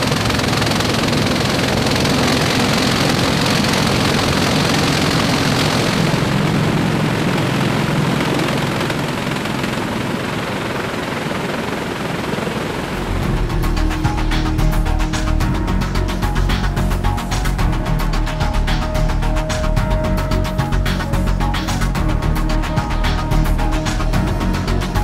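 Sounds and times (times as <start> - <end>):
helicopter rotors and engines: 0.0 - 25.0.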